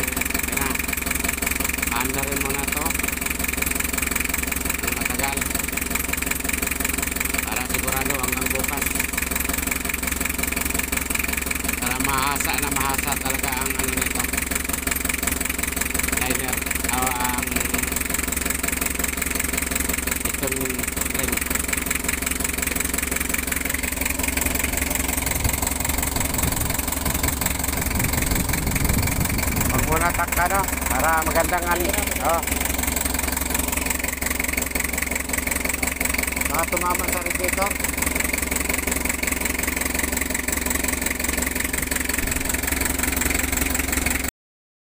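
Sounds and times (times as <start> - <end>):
diesel engine idling: 0.0 - 44.3.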